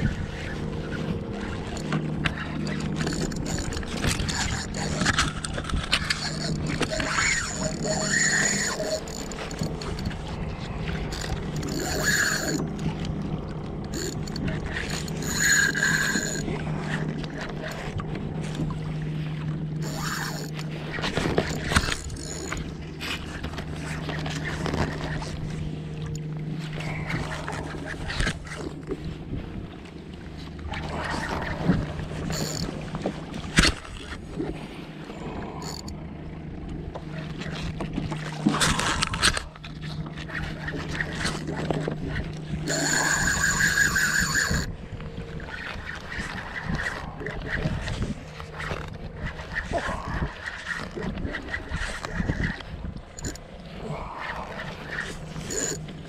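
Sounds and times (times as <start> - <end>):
wind on microphone: 0.0 - 19.0, 24.0 - 35.9, 40.4 - 56.0
fishing reel whirring: 0.0 - 29.0, 30.4 - 56.0
steady low hum: 0.0 - 56.0
waves lapping against kayak hull: 0.0 - 56.0.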